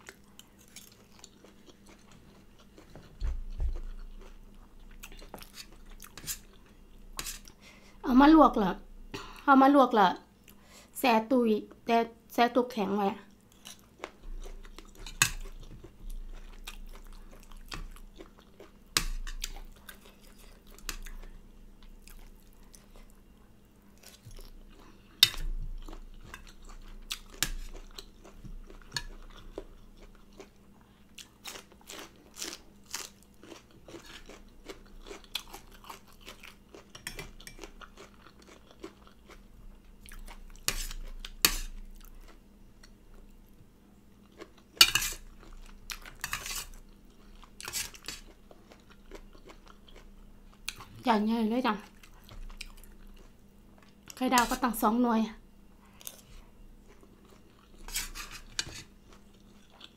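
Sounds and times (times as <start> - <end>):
chewing and crunching food: 0.0 - 7.6, 13.2 - 54.8, 55.8 - 59.9.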